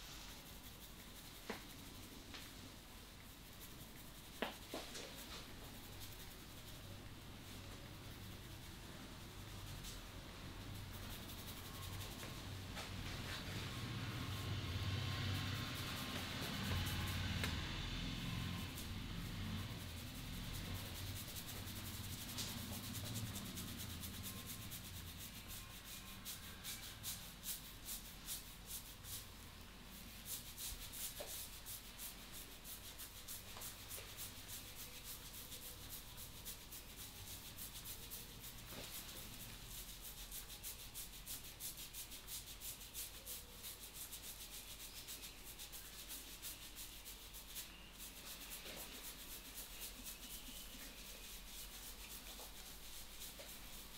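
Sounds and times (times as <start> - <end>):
hands rubbing hair and scalp: 0.0 - 53.9.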